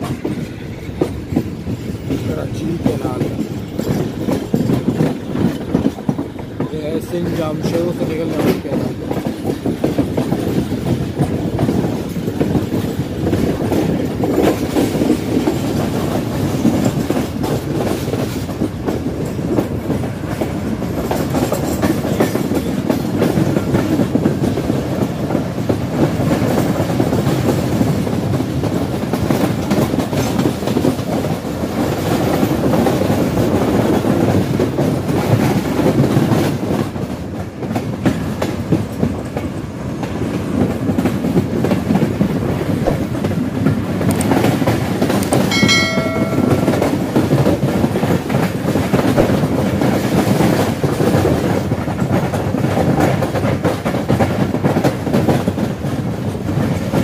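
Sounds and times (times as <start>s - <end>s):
train rumbling at speed: 0.0s - 57.0s
wheels clattering over rail joints: 0.0s - 57.0s.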